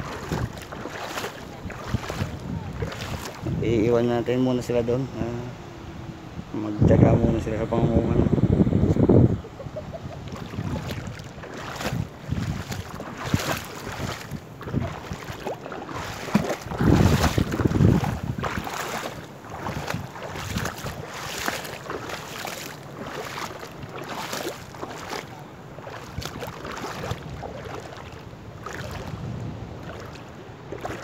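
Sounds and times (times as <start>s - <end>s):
legs wading through water: 0.0s - 3.6s, 9.4s - 31.0s
wind buffeting microphone: 0.0s - 31.0s.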